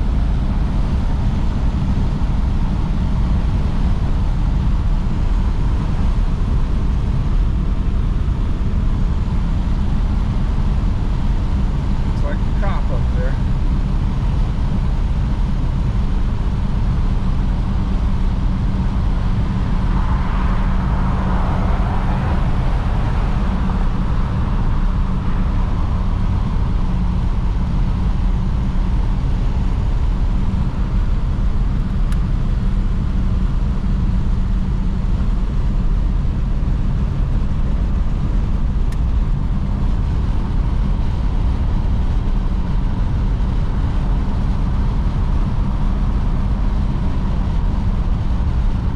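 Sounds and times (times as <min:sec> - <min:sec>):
car engine low rumble: 0:00.0 - 0:48.9
road and wind noise: 0:00.0 - 0:48.9.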